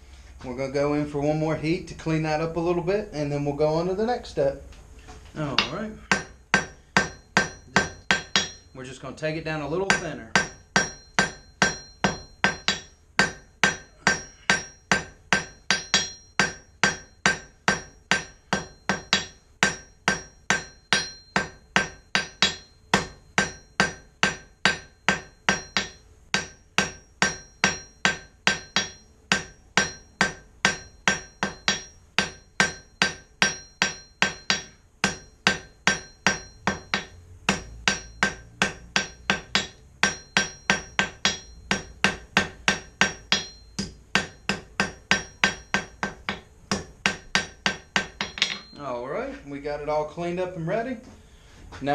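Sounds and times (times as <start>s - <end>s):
hammer striking steel on anvil: 5.4s - 8.9s, 9.6s - 49.0s.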